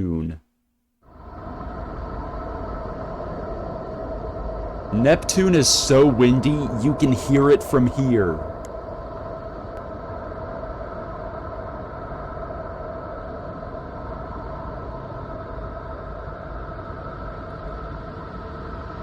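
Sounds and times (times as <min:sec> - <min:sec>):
faint steady tones: 0:00.0 - 0:19.0
wind-like rumbling rush: 0:01.1 - 0:19.0.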